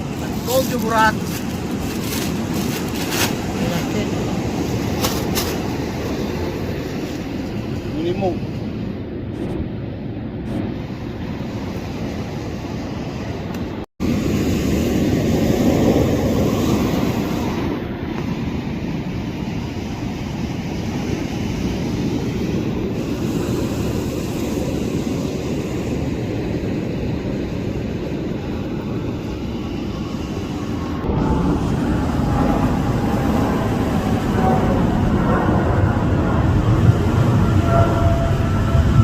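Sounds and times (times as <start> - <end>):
surf on shore: 0.0 - 39.0
wind: 0.0 - 39.0.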